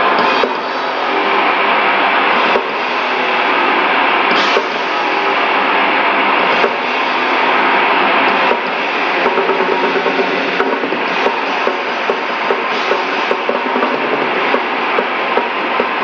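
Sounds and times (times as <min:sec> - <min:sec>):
drums: 0:00.0 - 0:16.0
electric guitars: 0:00.0 - 0:16.0
live metal band playing: 0:00.0 - 0:16.0.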